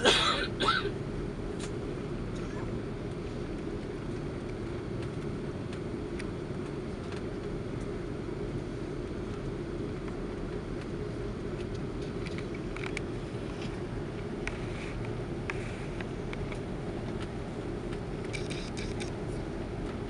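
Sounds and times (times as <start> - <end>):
aircraft cabin low rumble: 0.0 - 20.0.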